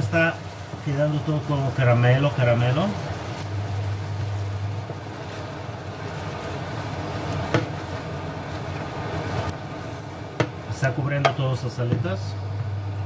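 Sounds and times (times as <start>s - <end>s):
sauce sizzling and bubbling in a pan: 0.0s - 13.0s.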